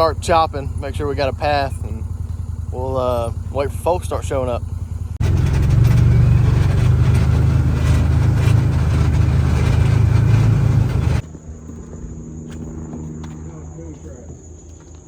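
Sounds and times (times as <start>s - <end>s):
engine running loud: 0.0s - 14.0s.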